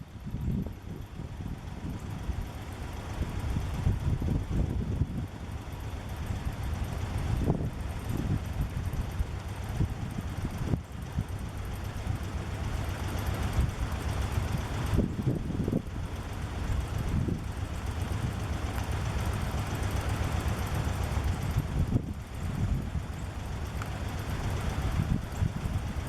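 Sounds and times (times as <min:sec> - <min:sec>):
wind buffeting microphone: 0:00.2 - 0:05.4, 0:06.1 - 0:26.0.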